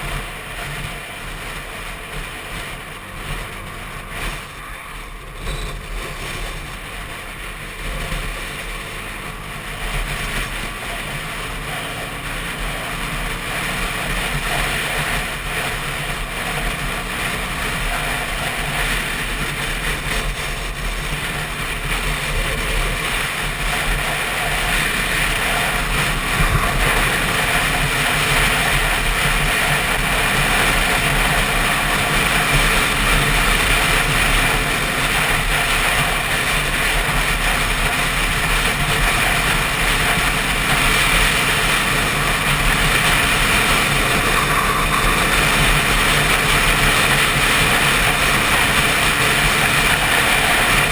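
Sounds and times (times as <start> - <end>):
motorcycle engine running: 0.0 - 50.9
wind rushing over microphone: 0.0 - 50.9.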